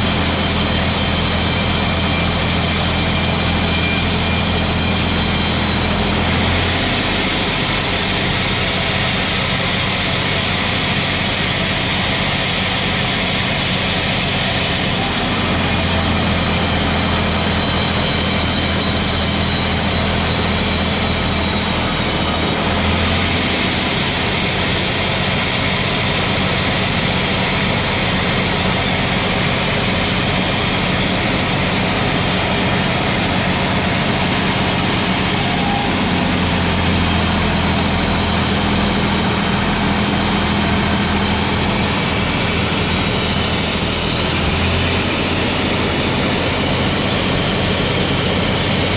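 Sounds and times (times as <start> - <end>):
noisy sawmill din: 0.0 - 48.9
sawmill engine running: 0.0 - 48.9.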